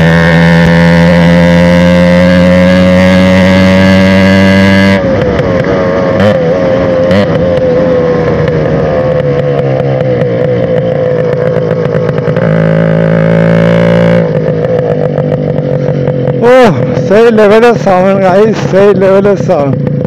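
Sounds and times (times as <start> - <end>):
two-stroke engine exhaust: 0.0 - 20.0.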